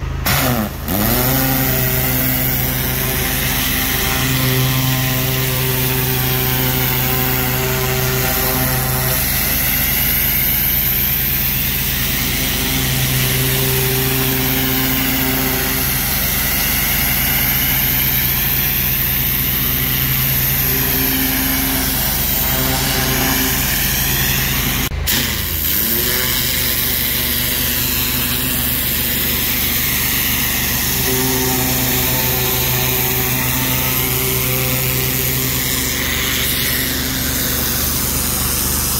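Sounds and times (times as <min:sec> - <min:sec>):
pressure washer spraying brick: 0:00.0 - 0:38.9.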